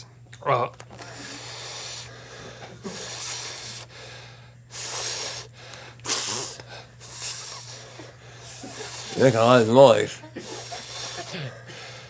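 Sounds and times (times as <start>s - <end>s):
man breathing hard and gasping: 1.0s - 9.6s, 10.4s - 12.0s.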